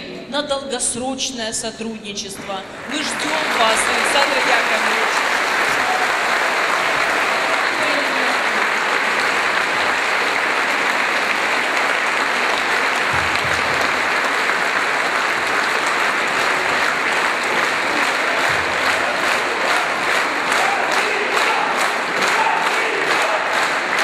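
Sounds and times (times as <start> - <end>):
audience applauding: 2.6 - 24.0.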